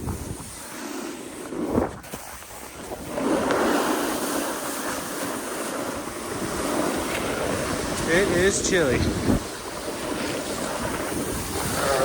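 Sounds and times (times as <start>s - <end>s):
snowboard scraping over snow: 0.0s - 12.0s
wind on microphone: 0.0s - 12.0s.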